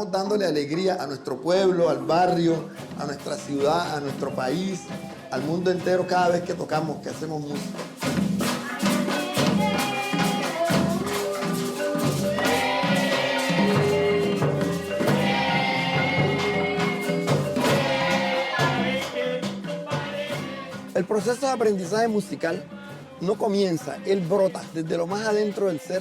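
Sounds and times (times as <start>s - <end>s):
marimba and hand percussion music: 0.0s - 26.0s.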